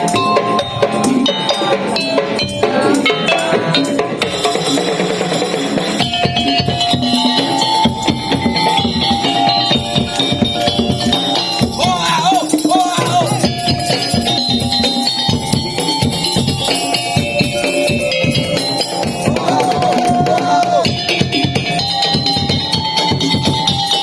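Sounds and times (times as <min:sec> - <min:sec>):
held melodic tones: 0:00.0 - 0:24.0
percussion ensemble rhythm: 0:00.0 - 0:24.0
wavering melody: 0:00.0 - 0:24.0.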